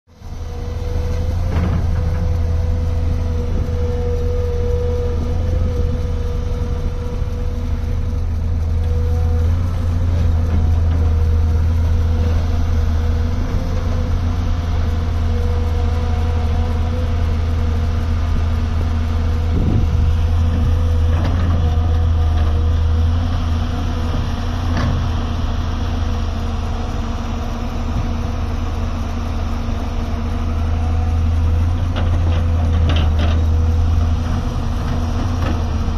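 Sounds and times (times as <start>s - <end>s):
excavator diesel engine droning: 0.1s - 35.9s.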